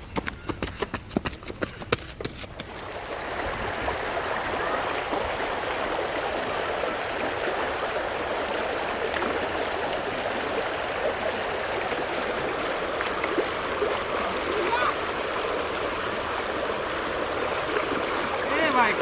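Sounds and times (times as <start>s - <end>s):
stream flowing over rocks: 2.6s - 19.0s.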